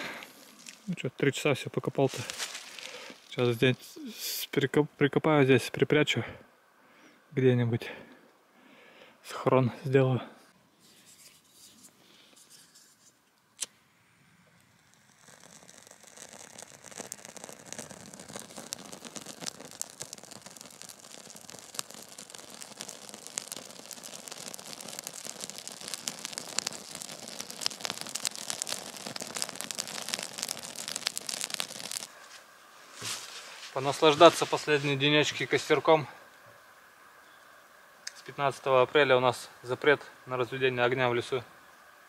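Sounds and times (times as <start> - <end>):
campfire crackling: 0.0 - 4.4, 11.0 - 42.0.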